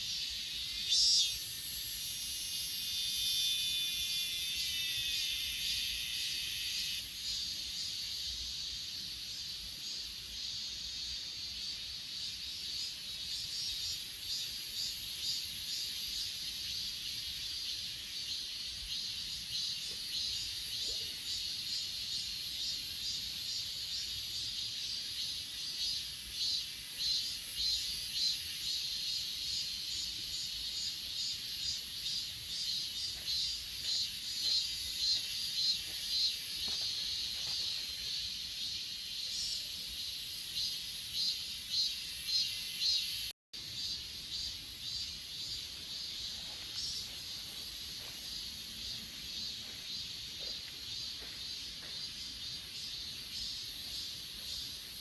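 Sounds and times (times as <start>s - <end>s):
grass insects chirring: 0.0s - 8.2s, 12.7s - 55.0s.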